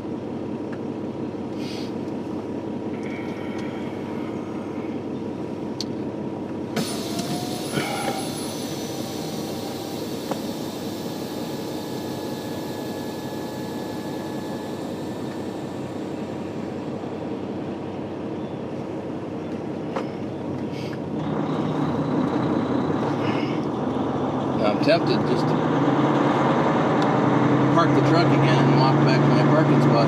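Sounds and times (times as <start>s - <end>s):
truck diesel engine drone: 0.0s - 30.0s.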